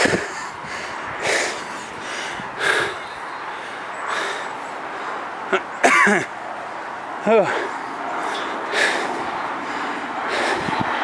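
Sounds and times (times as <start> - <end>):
heavy breathing: 0.0 - 5.7, 7.2 - 11.0.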